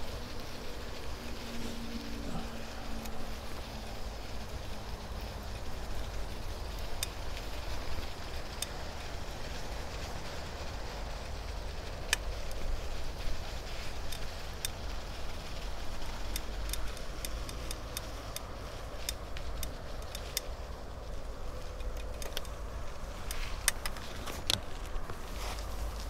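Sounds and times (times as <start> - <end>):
bicycle clicking and rattling: 0.0 - 26.0.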